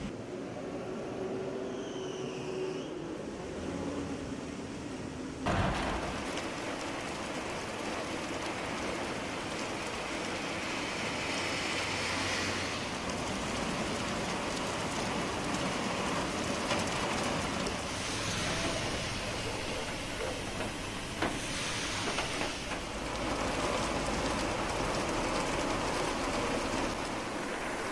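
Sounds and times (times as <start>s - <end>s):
heavy rain on a road: 3.1s - 27.9s.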